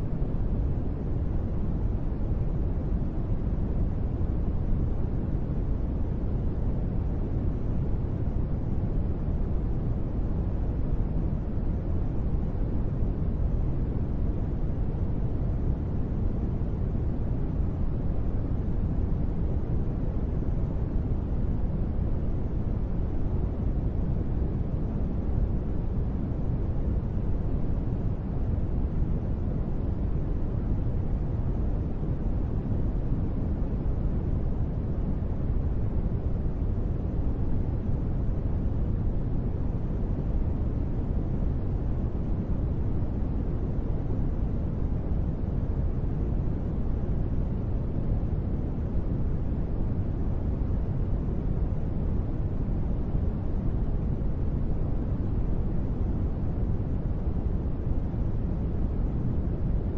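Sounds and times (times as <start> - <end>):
white noise low rumble: 0.0 - 59.9.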